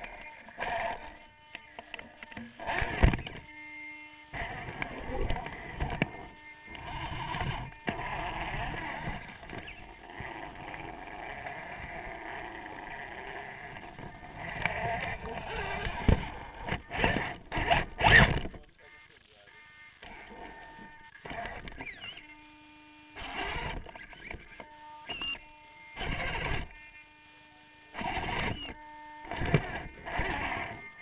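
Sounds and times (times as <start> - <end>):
rc car scraping on rocks: 0.0 - 3.7, 4.3 - 19.0, 19.6 - 22.4, 23.1 - 26.8, 27.9 - 31.0.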